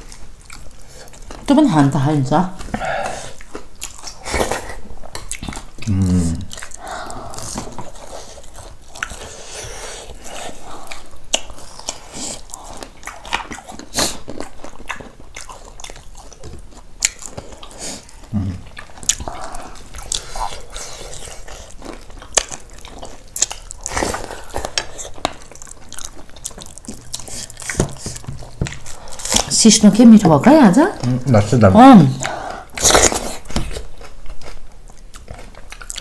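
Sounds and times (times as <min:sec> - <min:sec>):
wet chewing and mouth smacking: 0:00.0 - 0:01.6, 0:02.5 - 0:29.6, 0:32.1 - 0:36.0.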